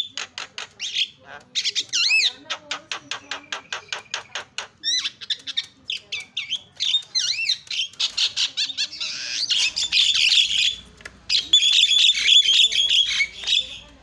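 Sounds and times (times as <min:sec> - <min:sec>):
harsh squawking chatter: 0:00.0 - 0:14.0
myna whistling calls: 0:00.8 - 0:13.9.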